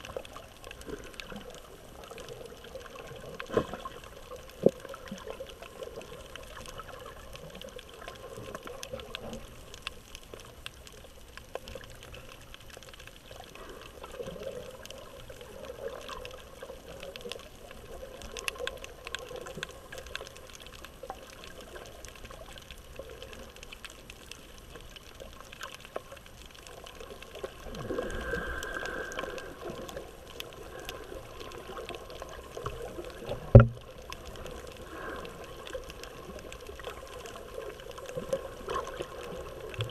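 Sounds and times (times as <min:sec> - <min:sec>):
faint clicks underwater: 0:00.0 - 0:39.9
underwater water noise: 0:00.0 - 0:39.9.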